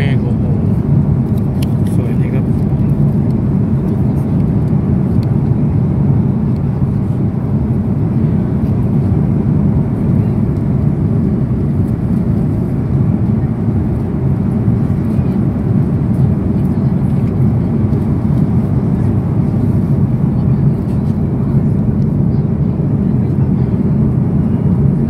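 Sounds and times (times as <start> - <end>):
airliner cabin engine noise: 0.0 - 25.0.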